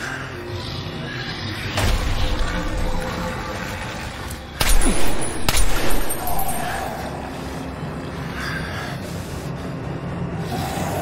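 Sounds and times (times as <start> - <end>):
film music: 0.0 - 11.0.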